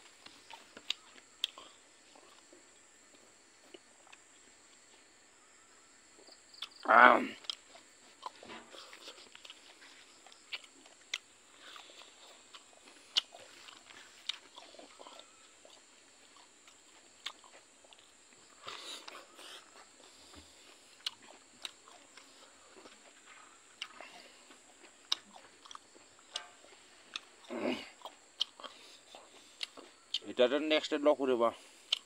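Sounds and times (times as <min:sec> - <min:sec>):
man chewing wetly: 0:00.0 - 0:05.2, 0:06.1 - 0:30.3, 0:31.6 - 0:32.0.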